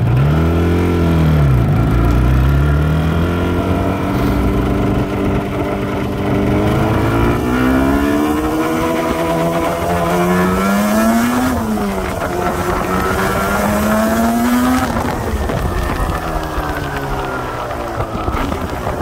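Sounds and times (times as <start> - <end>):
two-stroke motorcycle engine accelerating: 0.0 - 19.0.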